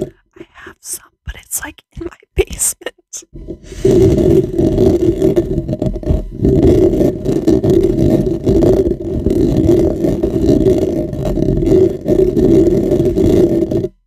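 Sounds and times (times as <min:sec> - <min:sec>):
fingertips scratching a microphone: 0:00.0 - 0:14.0.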